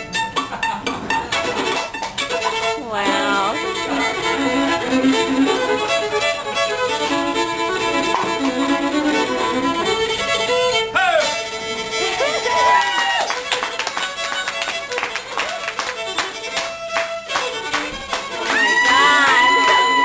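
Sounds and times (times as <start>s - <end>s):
fiddle melody: 0.0s - 20.0s.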